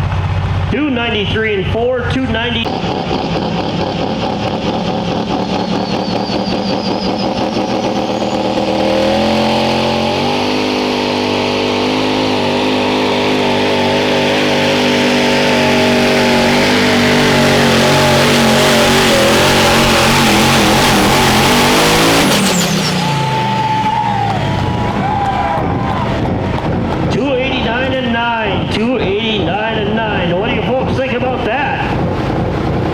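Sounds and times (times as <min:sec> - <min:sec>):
engine under full load: 0:00.0 - 0:32.9.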